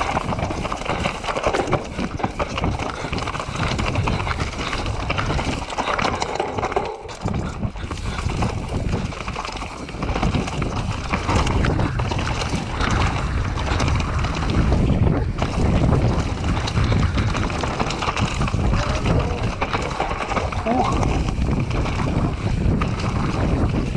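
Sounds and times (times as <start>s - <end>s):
bike rattling: 0.0s - 23.9s
tyres crunching over stones: 0.0s - 23.9s
wind on microphone: 0.0s - 23.9s.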